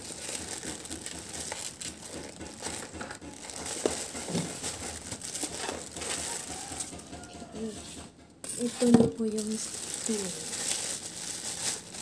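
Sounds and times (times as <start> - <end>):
plastic bag crinkling: 0.0 - 7.5, 8.4 - 12.0.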